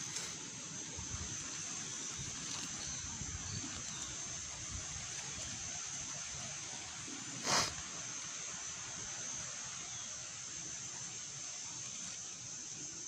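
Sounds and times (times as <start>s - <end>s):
constant high hiss: 0.0s - 13.0s.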